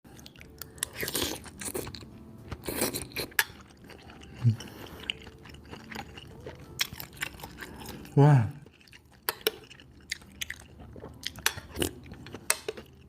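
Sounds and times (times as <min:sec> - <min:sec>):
person biting and chewing: 0:00.3 - 0:08.1, 0:08.7 - 0:13.0.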